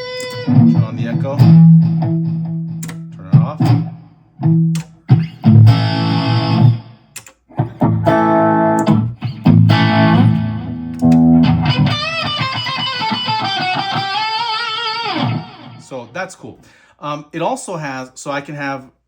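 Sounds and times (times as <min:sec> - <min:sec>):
electric guitar chords: 0:00.0 - 0:15.9.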